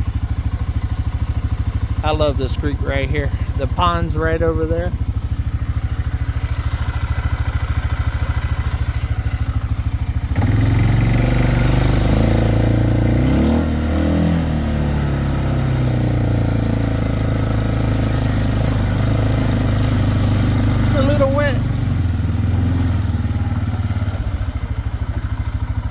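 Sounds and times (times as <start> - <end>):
quad bike engine: 0.0 - 25.9.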